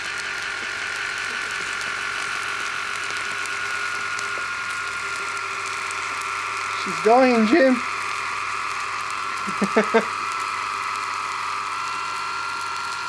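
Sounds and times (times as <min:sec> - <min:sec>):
fine electrical crackling: 0:00.0 - 0:13.0
mains hum: 0:00.0 - 0:13.0
motor whine: 0:00.0 - 0:13.0.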